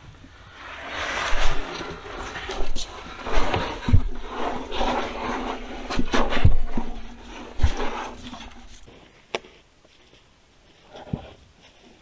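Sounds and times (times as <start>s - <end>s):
clothing rustling and scraping: 0.6s - 12.0s.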